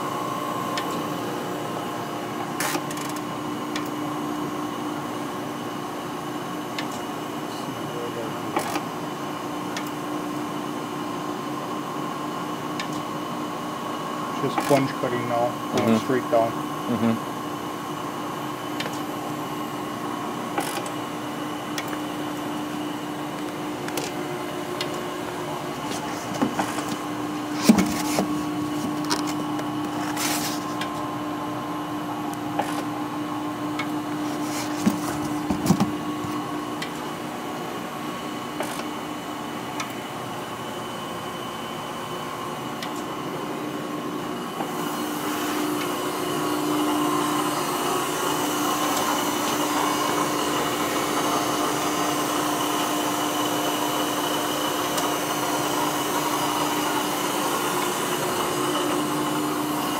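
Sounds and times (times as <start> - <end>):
grinder motors humming: 0.0 - 59.9.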